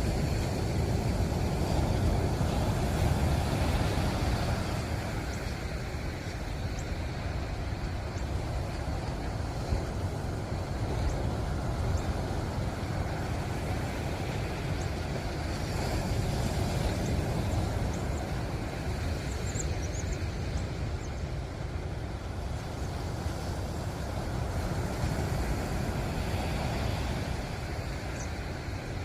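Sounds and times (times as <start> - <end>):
ocean surf washing in: 0.0 - 29.0.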